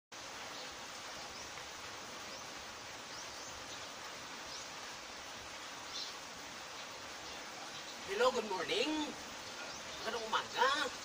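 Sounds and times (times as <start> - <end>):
rain falling: 0.1 - 11.0.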